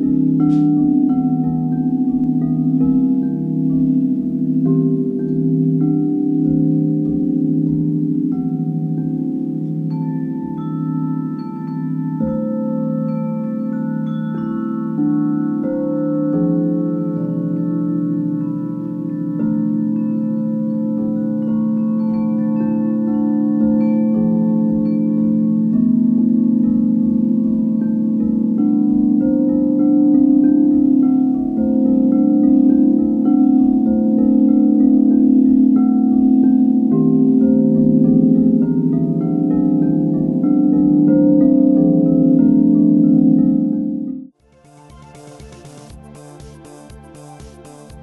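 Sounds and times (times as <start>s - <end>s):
crystal singing bowls low tones: 0.0s - 44.4s
higher singing bowl notes ringing: 0.0s - 44.4s.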